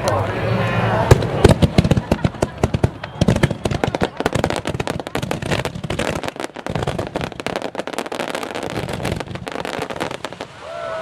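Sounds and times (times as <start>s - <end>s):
fireworks bursts and crackles: 0.0s - 11.0s.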